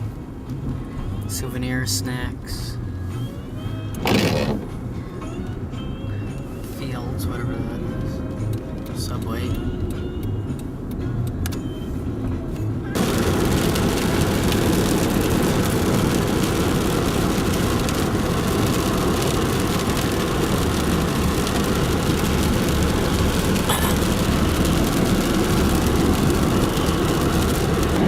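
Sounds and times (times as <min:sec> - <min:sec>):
low engine rumble: 0:00.0 - 0:28.0
road and wind noise: 0:00.0 - 0:28.0.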